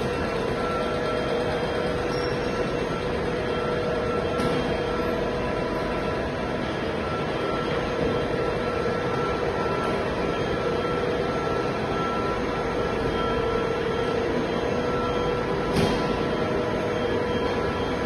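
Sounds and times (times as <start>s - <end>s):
backhoe engine running: 0.0s - 18.0s.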